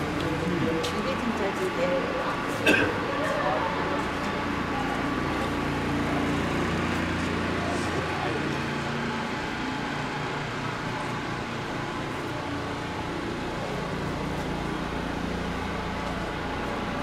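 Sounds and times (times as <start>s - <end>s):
road noise: 0.0s - 17.0s
vehicle engine drone: 0.0s - 17.0s.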